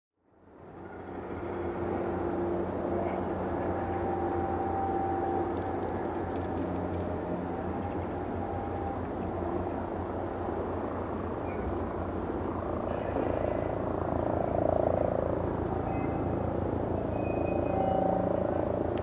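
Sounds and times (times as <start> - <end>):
distant helicopter drone: 0.2 - 19.0.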